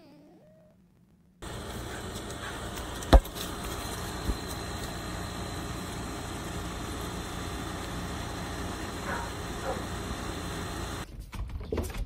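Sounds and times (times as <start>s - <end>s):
low rumbling outdoor background: 0.7s - 11.1s.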